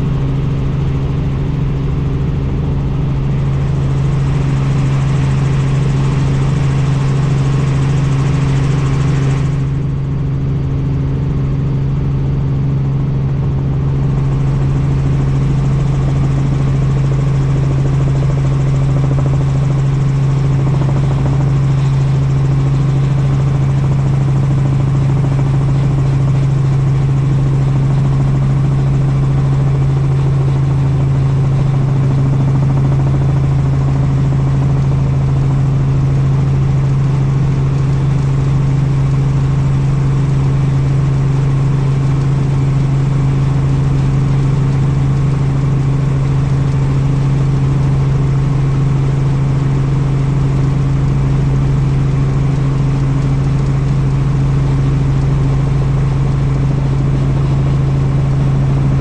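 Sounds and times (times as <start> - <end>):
helicopter drone: 0.0 - 59.0.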